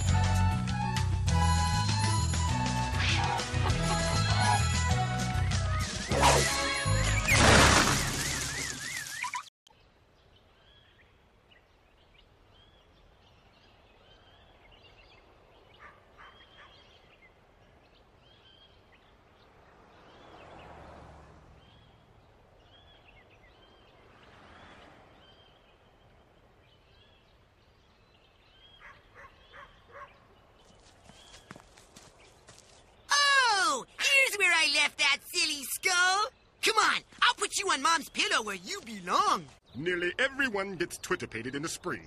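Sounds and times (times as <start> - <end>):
small birds chirping: 3.1 - 20.8, 21.5 - 42.0.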